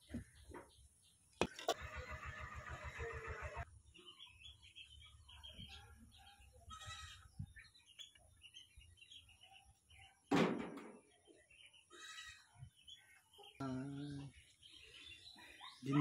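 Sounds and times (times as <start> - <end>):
small birds chirping: 0.0 - 10.3, 10.9 - 16.0.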